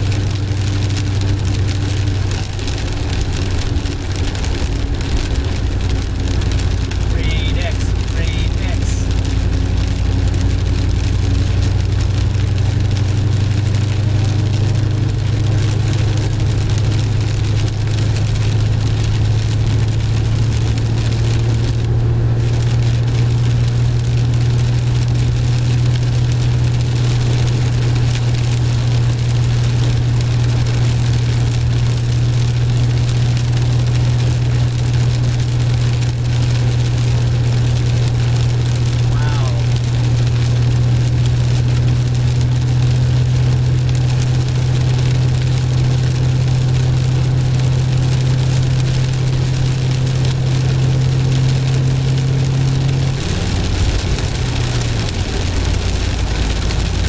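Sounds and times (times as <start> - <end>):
car engine droning: 0.0 - 57.0
tyre and road noise: 0.0 - 57.0.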